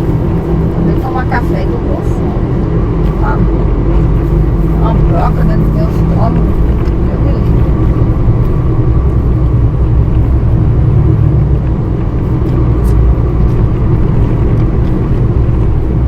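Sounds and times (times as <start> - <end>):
truck engine and road drone: 0.0 - 16.0.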